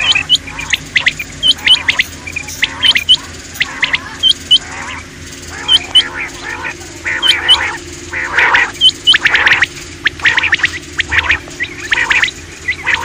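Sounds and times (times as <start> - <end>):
harsh rapid chattering calls: 0.0 - 13.0
quail calling: 0.0 - 13.0.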